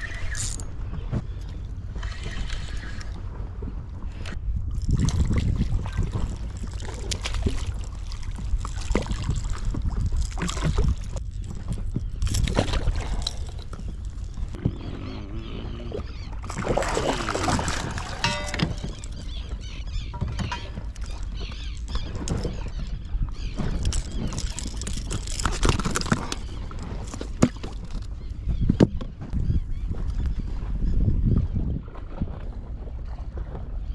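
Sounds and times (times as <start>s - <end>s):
water sloshing against boat: 0.0s - 33.9s
wind buffeting microphone: 0.0s - 33.9s.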